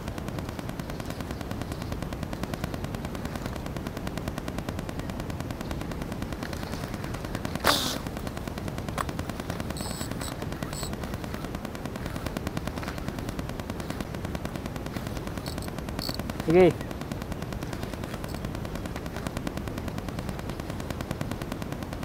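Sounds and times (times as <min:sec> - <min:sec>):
fast crackling rattle: 0:00.0 - 0:22.0.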